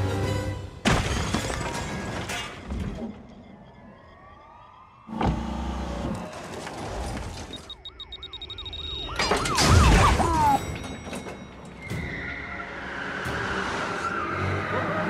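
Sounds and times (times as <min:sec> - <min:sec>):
distant police sirens wailing: 0:02.8 - 0:15.0.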